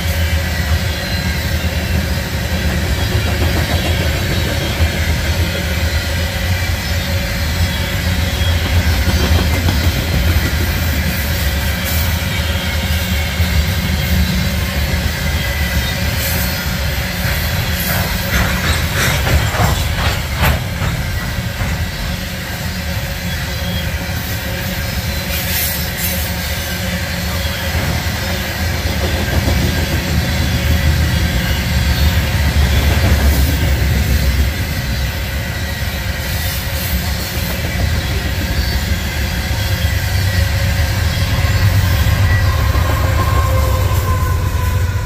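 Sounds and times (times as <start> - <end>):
freight train wheels rumbling on rail: 0.0 - 45.0
locomotive hum: 0.0 - 45.0.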